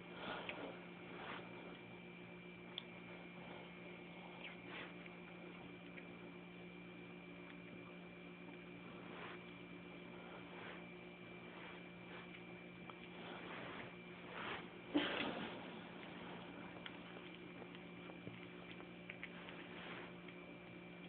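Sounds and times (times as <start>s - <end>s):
cat chewing and licking: 0.0s - 21.0s
low electrical hum: 0.0s - 21.0s
thin high whine: 0.0s - 21.0s.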